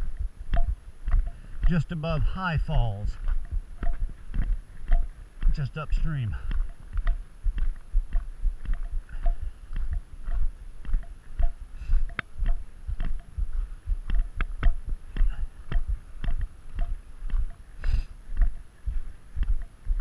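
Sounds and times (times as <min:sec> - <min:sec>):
footsteps on gravel: 0:00.0 - 0:20.0.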